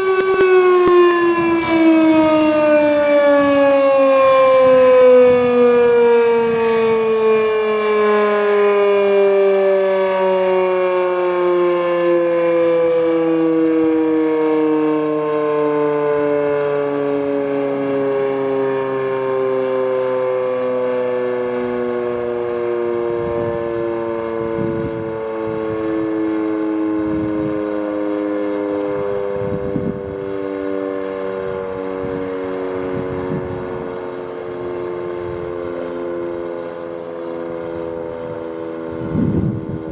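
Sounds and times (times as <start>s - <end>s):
lower siren tone: 0.0s - 39.9s
warning siren winding down: 0.0s - 39.9s.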